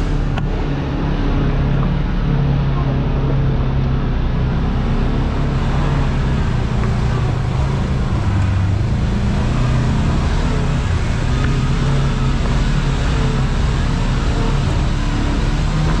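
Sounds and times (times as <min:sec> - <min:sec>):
ride noise on dirt trail: 0:00.0 - 0:16.0
utility vehicle engine running: 0:00.0 - 0:16.0.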